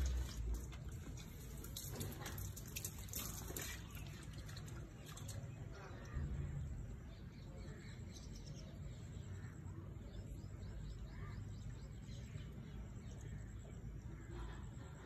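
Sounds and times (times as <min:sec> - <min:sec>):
birds chirping faintly: 0:00.0 - 0:15.0
low steady rumble: 0:00.0 - 0:15.0.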